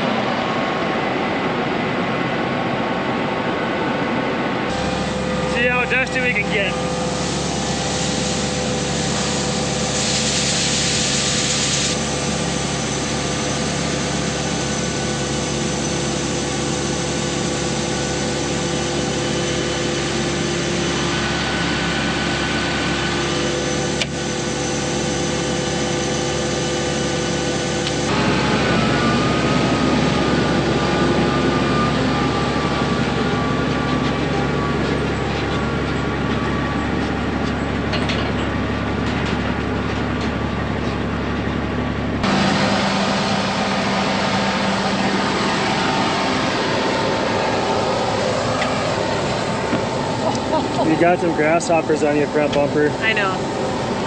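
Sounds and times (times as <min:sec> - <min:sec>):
engine and machinery droning: 0:00.0 - 0:54.0.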